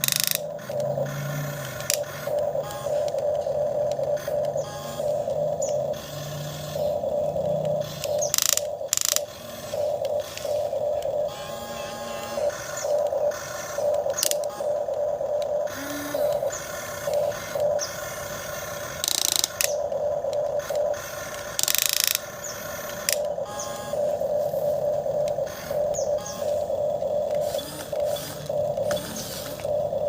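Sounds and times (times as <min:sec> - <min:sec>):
small electric motors whirring: 0:00.0 - 0:30.0.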